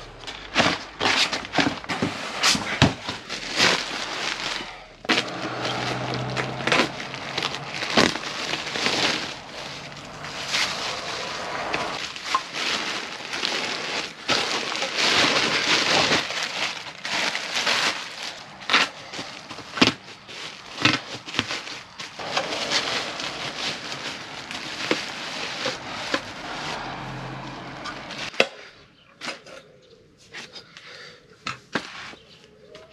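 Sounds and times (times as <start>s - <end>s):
plastic and bubble wrap crinkling: 0.0s - 28.4s.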